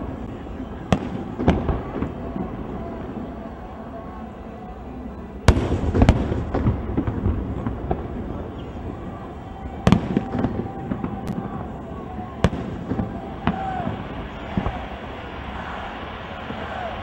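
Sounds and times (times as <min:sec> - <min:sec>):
firework crackling: 0:00.0 - 0:17.0.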